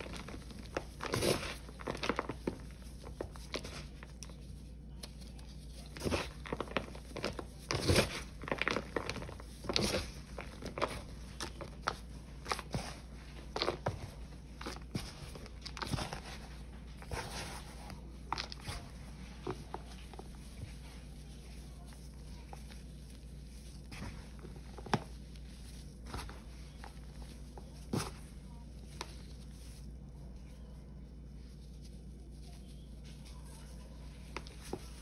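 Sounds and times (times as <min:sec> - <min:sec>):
paste crunching and crumbling: 0:00.0 - 0:35.0
steady low hum: 0:00.0 - 0:35.0.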